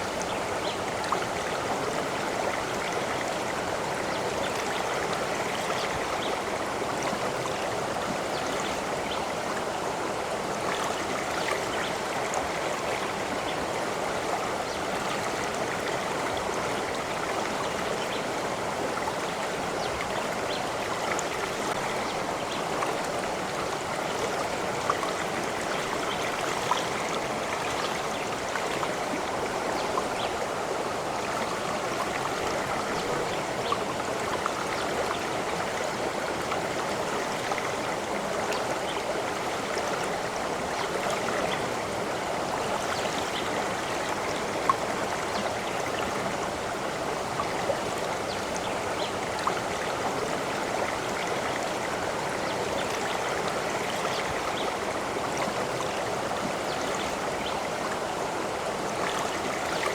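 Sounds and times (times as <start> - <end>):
stream of water babbling: 0.0 - 59.9.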